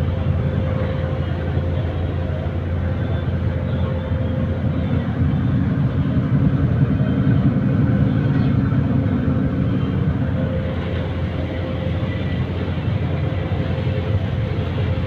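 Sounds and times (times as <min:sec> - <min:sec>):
boat engine droning: 0:00.0 - 0:15.0
faint steady whine: 0:00.0 - 0:15.0.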